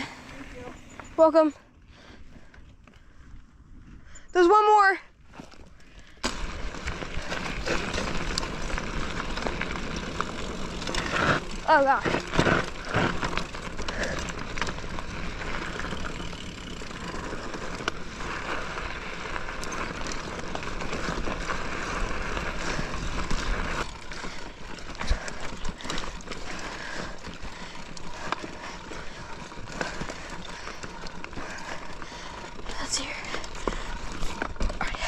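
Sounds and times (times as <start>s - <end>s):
bike clicks and rattles: 5.2s - 35.0s
tyres crunching over gravel: 5.2s - 35.0s.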